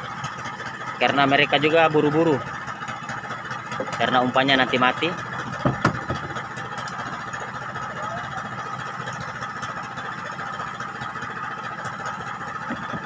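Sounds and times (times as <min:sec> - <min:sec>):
engine idling with whine: 0:00.0 - 0:13.0.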